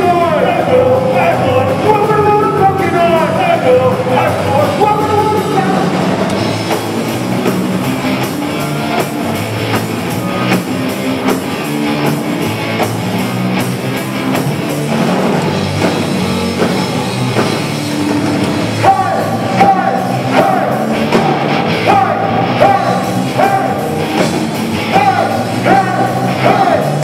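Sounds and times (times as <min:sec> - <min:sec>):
punk rock band playing live: 0:00.0 - 0:27.0.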